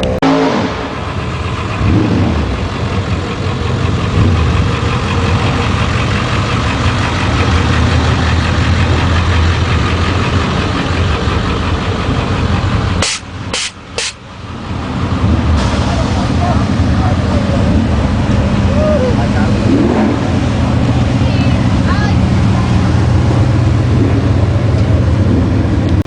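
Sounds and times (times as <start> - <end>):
vehicle engine deep rumble: 0.0 - 26.0.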